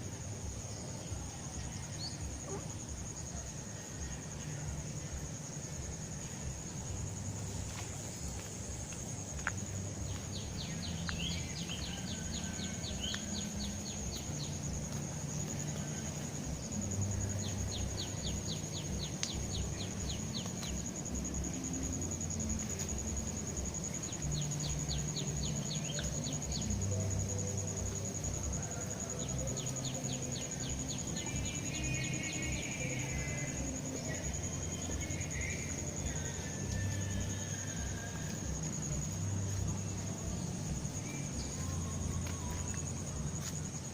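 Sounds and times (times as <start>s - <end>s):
high-pitched insect whine: 0.0s - 43.9s
insect chirping trill: 0.0s - 43.9s.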